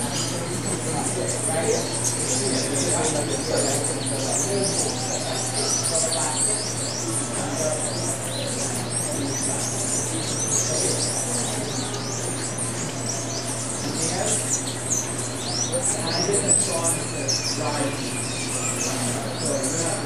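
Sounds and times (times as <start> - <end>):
steady low hum: 0.0 - 20.0
tropical birds chirping and whistling: 0.0 - 20.0.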